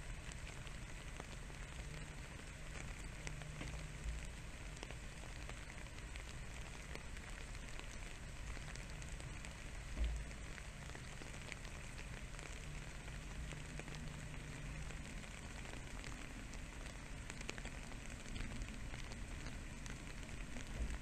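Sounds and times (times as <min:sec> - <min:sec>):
faint pattering and crackling: 0:00.0 - 0:21.0.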